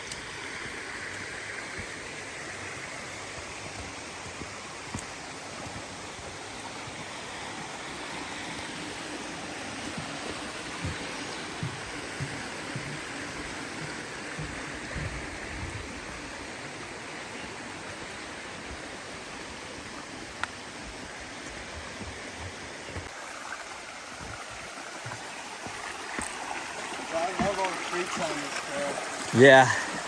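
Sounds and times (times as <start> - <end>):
creek running: 0.0 - 30.0.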